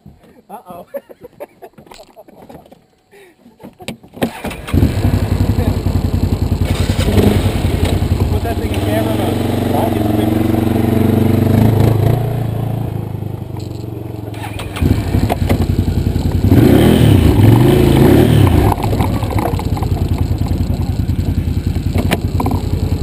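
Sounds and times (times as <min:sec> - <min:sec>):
quad engine revving: 0:04.3 - 0:23.0.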